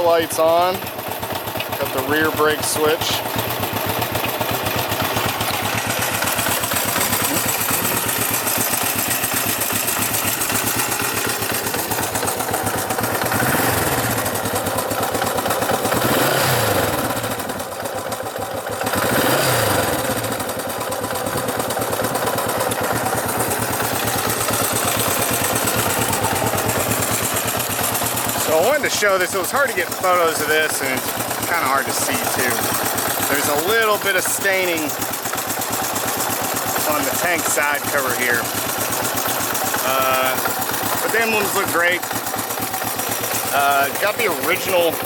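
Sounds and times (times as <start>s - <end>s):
motorcycle engine idling and revving: 0.0s - 45.0s.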